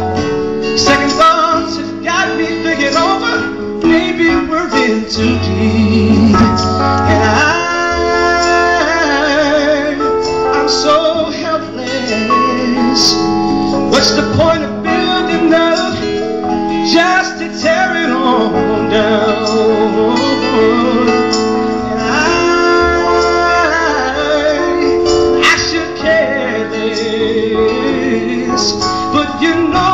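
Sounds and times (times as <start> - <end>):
acoustic guitar: 0.0 - 29.9
keyboard: 0.0 - 29.9
man singing pop ballad: 0.0 - 29.9.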